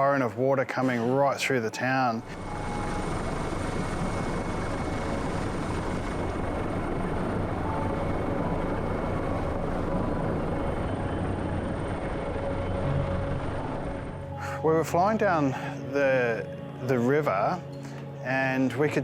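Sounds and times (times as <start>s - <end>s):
helicopter rotor drone: 0.0s - 19.0s.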